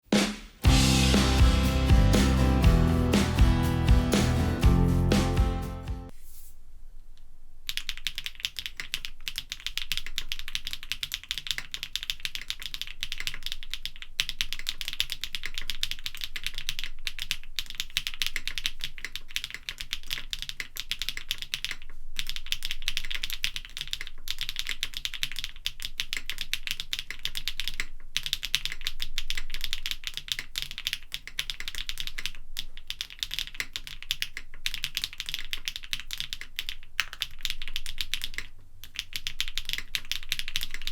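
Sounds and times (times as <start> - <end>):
fast typing on mechanical keyboard: 7.7 - 40.9.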